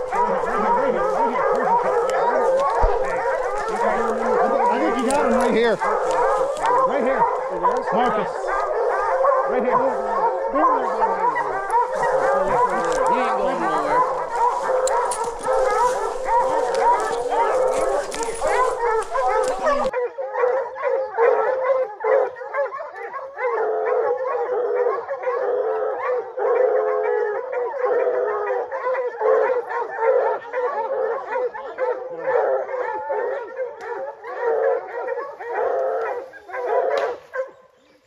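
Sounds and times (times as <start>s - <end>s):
hounds baying: 0.0s - 37.8s.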